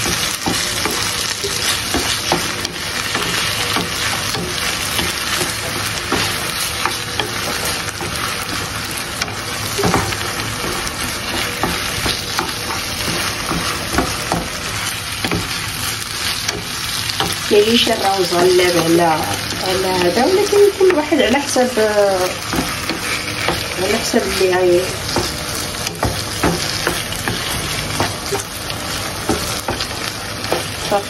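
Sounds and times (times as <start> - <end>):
frying hiss in a pan: 0.0 - 31.0.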